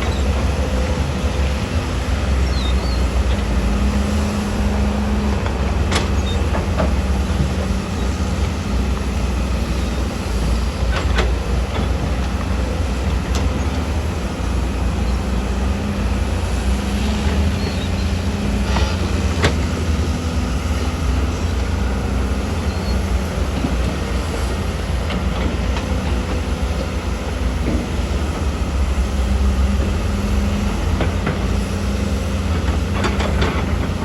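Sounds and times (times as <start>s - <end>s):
heavy machinery rumbling: 0.0s - 34.0s.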